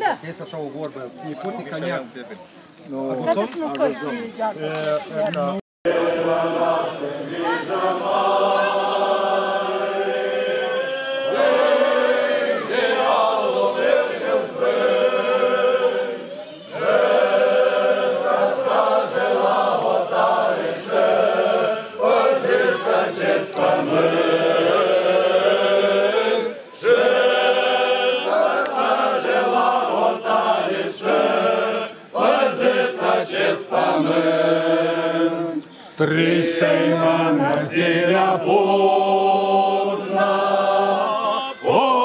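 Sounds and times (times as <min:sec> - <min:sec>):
choir singing: 0:05.9 - 0:42.0.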